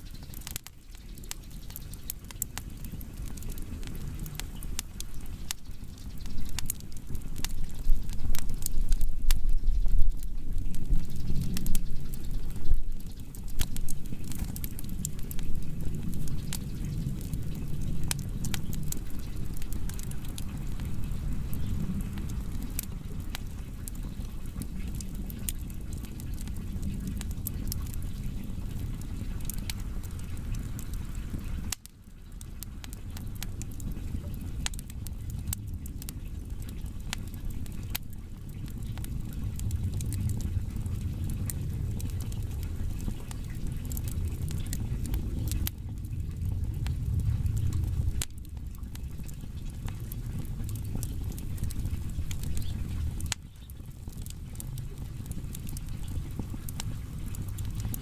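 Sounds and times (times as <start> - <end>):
firewood burning with crackles: 0.0 - 58.0.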